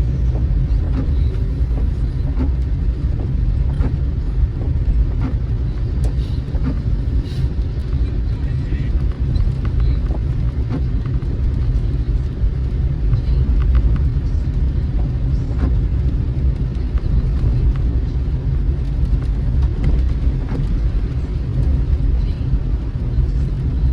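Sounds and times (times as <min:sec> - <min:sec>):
car road rumble from inside: 0:00.0 - 0:23.9.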